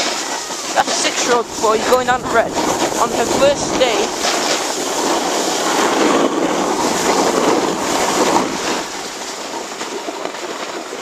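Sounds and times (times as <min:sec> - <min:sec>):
snowboard scraping over snow: 0:00.0 - 0:11.0
wind rushing over microphone: 0:00.4 - 0:10.4.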